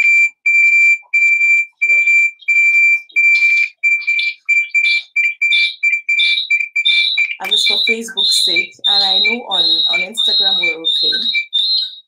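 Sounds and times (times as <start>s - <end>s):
electronic alarm beeping: 0.0s - 12.0s.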